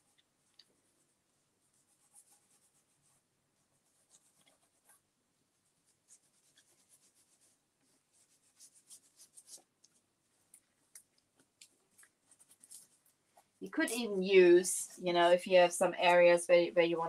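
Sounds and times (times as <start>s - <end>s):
faint scratchy rubbing strokes: 0.0s - 17.0s.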